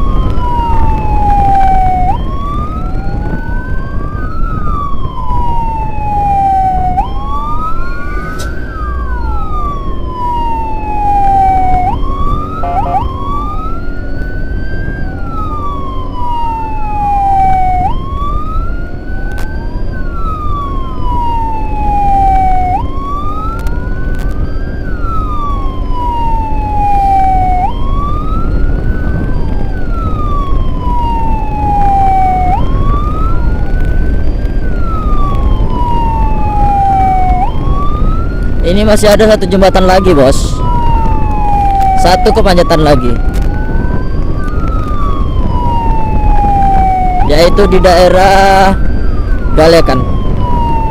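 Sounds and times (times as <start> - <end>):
emergency sirens wailing: 0.0 - 50.9
fainter siren: 0.0 - 50.9
road and wind rumble: 0.0 - 50.9.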